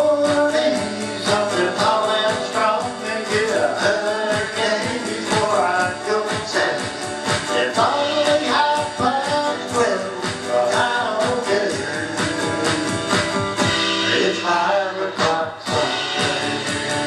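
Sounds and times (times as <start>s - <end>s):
electronic drum beat: 0.0s - 14.5s, 15.2s - 17.0s
strummed guitar: 0.0s - 17.0s.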